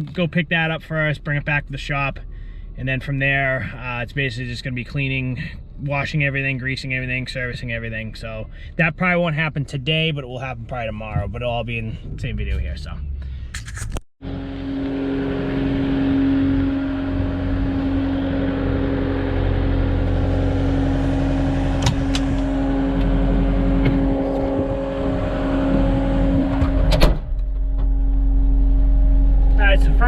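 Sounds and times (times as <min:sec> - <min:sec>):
road rumble: 0:00.0 - 0:30.0
truck engine hum: 0:00.0 - 0:30.0.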